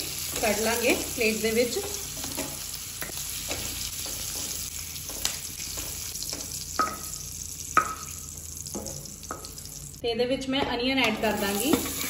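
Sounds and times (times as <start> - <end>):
vegetables sizzling in butter: 0.0 - 10.0, 11.2 - 12.0.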